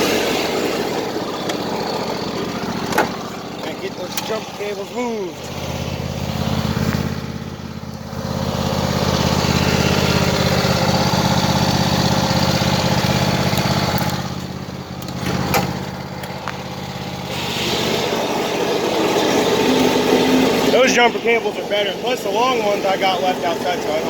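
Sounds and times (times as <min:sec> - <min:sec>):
lawn mower engine idling: 0:00.0 - 0:24.0.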